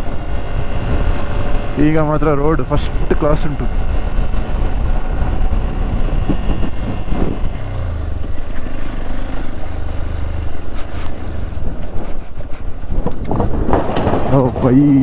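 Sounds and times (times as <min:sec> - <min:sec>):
motorcycle engine rumbling: 0:00.0 - 0:15.0
passing wind: 0:00.0 - 0:15.0.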